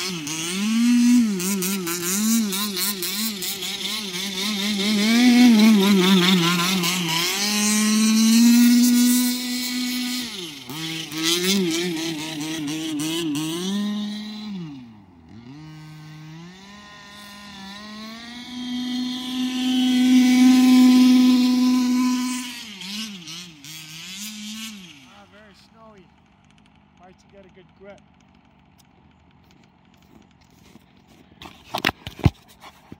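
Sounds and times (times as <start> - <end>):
rc truck engine revving: 0.0 - 30.8.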